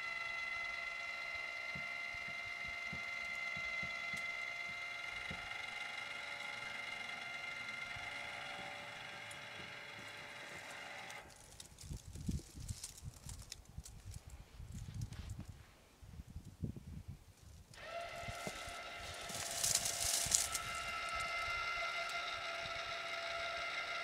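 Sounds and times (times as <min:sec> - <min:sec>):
electric motor whining: 0:00.0 - 0:14.2, 0:17.7 - 0:24.0.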